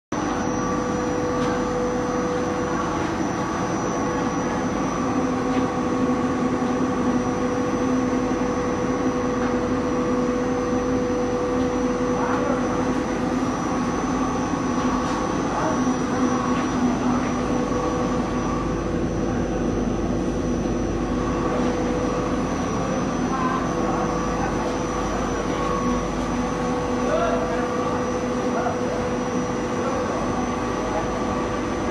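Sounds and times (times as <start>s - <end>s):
extrusion machine drone: 0.2s - 31.9s.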